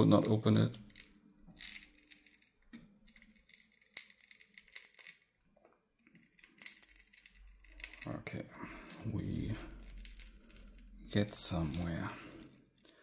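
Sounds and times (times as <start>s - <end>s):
faint clicks and crackles: 0.0s - 13.0s.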